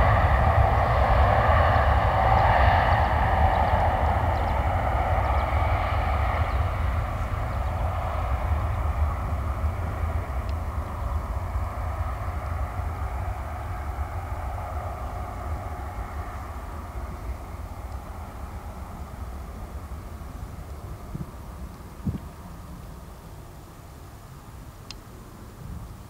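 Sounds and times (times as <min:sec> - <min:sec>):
jet engines rushing and rumbling: 0:00.0 - 0:26.0.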